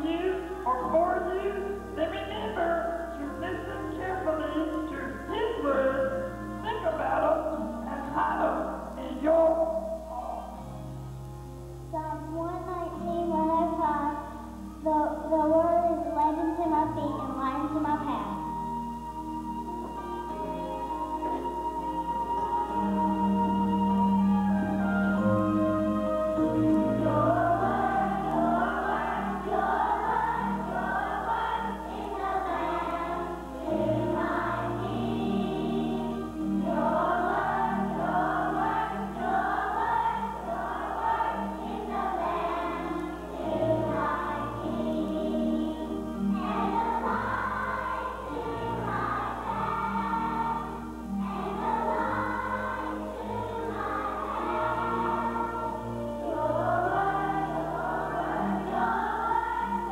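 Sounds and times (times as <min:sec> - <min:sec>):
children's choir singing: 0:00.0 - 0:10.7, 0:11.9 - 0:59.9
instrumental accompaniment low notes: 0:00.0 - 0:59.9.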